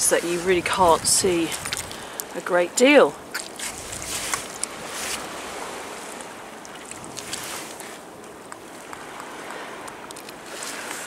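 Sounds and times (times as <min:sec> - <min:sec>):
river water washing on shore: 0:00.0 - 0:11.0
wind: 0:00.0 - 0:11.0.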